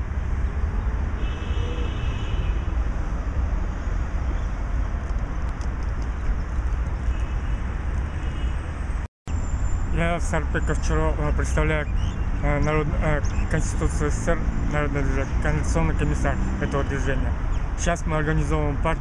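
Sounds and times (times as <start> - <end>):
passing cars rumbling: 0.0 - 19.0.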